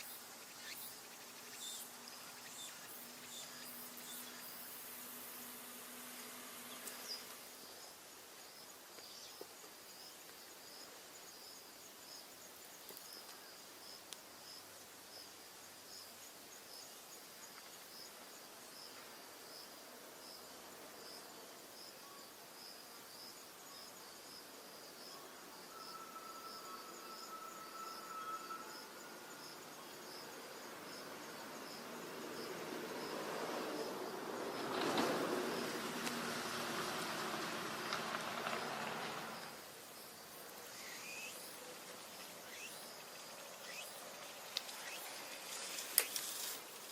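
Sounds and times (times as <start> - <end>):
insect chirping: 0.0 - 46.9
soft steady hiss: 0.0 - 46.9.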